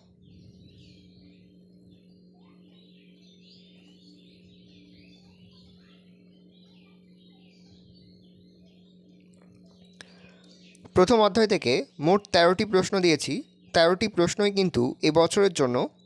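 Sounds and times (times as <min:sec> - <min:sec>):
birds chirping: 0:00.0 - 0:16.0
low hum: 0:00.0 - 0:16.0.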